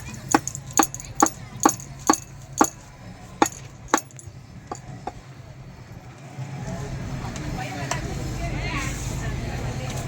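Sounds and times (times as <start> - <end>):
steady background noise: 0.0 - 10.0.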